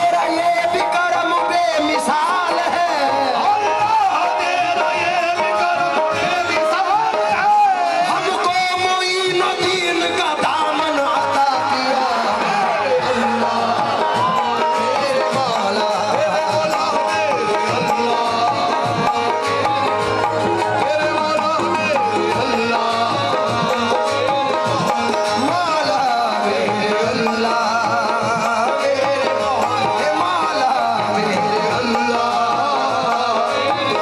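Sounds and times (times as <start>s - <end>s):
man singing ornamented lines: 0.0s - 34.0s
tabla rhythm: 0.0s - 34.0s.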